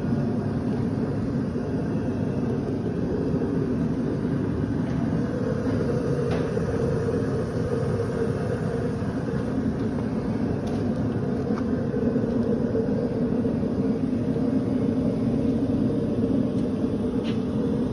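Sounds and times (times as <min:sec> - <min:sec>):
machinery hum and rumble: 0:00.0 - 0:17.9.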